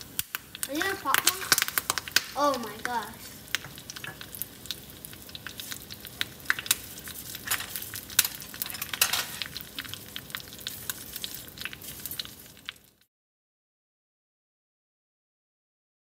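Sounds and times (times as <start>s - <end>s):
oil sizzling and popping: 0.0s - 13.1s.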